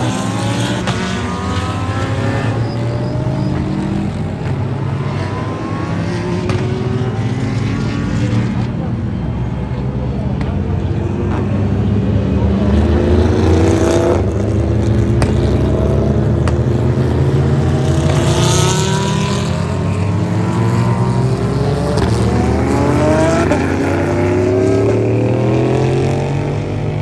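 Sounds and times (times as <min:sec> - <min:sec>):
cars accelerating through gears: 0:00.0 - 0:08.8, 0:10.4 - 0:27.0
race cars passing: 0:00.0 - 0:27.0.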